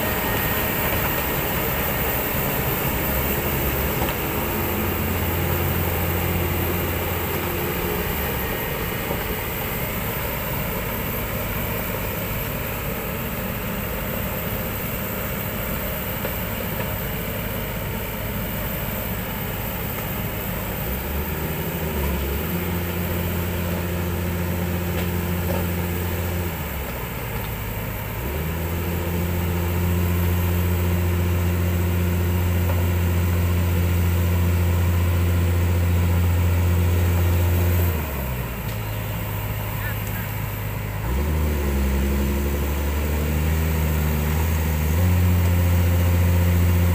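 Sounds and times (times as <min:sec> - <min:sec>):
excavator diesel engine droning: 0:00.0 - 0:46.9.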